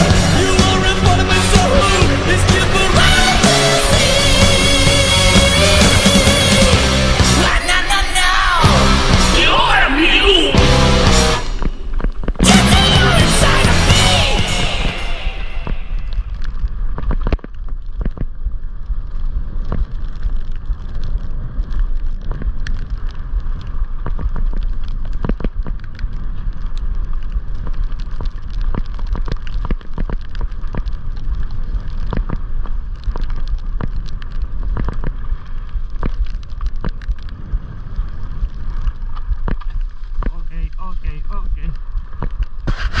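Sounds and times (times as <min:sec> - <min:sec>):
bike tyres on muddy trail: 0:00.0 - 0:13.2, 0:14.6 - 0:43.0.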